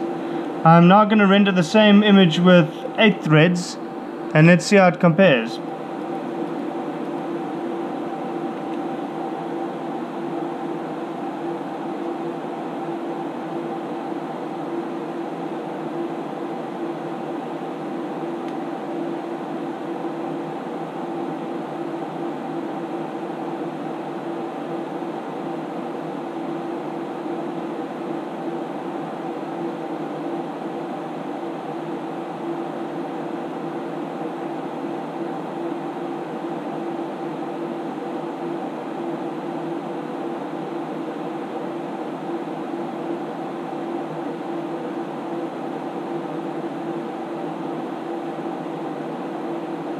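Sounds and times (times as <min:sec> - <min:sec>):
computer cooling fans humming: 0:00.0 - 0:49.9.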